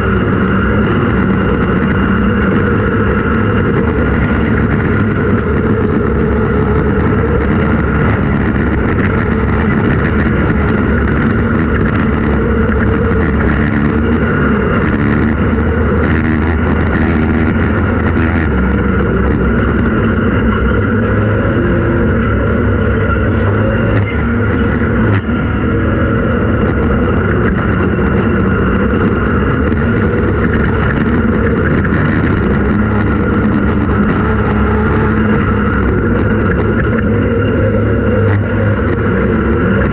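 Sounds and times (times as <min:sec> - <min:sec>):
loud vehicle engine running: 0:00.0 - 0:39.9.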